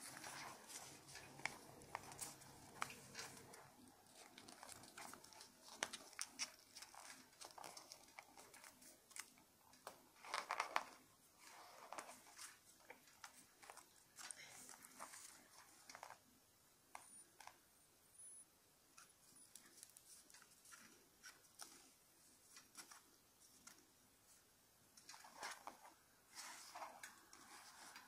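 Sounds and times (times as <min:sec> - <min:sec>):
paper being folded and creased: 0:00.0 - 0:16.3, 0:19.0 - 0:24.4, 0:25.0 - 0:28.0.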